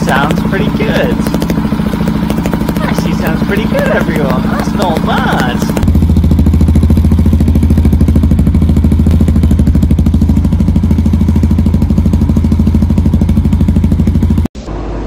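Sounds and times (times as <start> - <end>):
single-cylinder engine running: 0.0 - 15.0.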